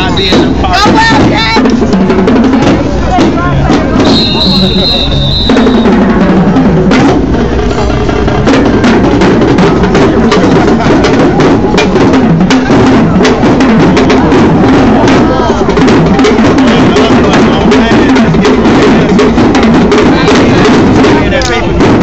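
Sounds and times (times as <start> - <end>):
marching drum line cadence: 0.0 - 22.0.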